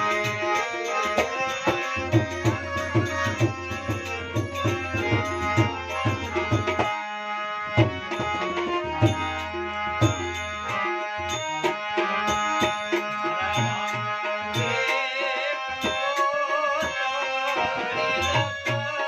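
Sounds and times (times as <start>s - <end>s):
harmonium melody: 0.0s - 19.0s
tabla beat: 0.0s - 19.0s.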